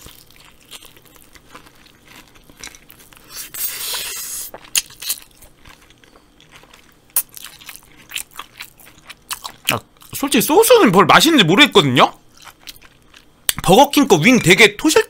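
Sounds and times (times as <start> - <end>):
crunching fried chicken: 0.0 - 15.0.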